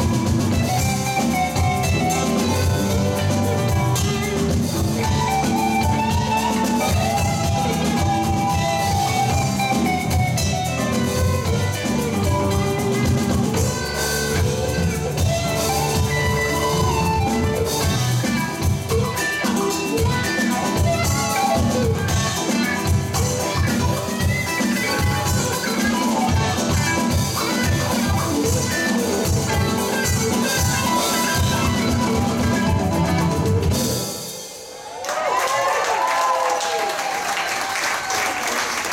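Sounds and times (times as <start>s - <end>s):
bass guitar: 0.0s - 34.2s
electric guitar: 0.0s - 34.5s
live rock band playing: 0.0s - 35.0s
drums: 0.0s - 38.9s.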